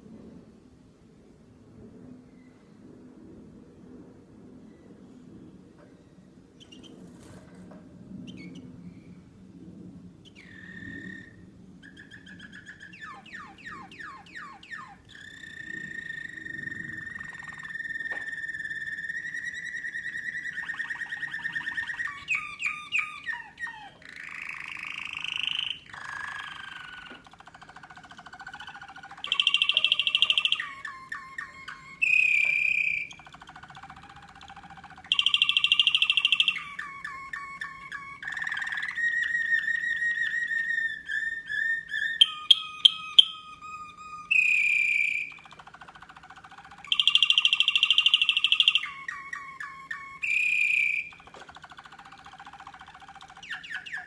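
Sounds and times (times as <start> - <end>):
canary singing: 6.6 - 7.3, 8.2 - 8.7, 10.2 - 54.0.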